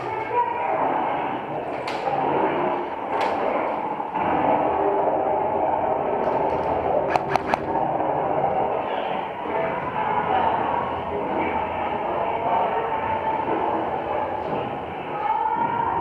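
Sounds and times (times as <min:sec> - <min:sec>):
steady noisy background: 0:00.0 - 0:16.0.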